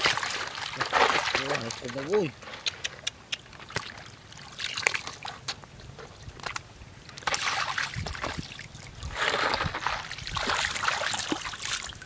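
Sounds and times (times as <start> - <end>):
splashing in shallow water: 0.0 - 12.0.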